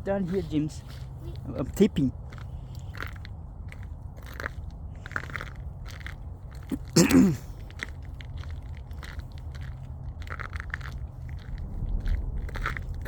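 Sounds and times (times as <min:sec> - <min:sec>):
footsteps crunching on a path: 0:00.0 - 0:13.0.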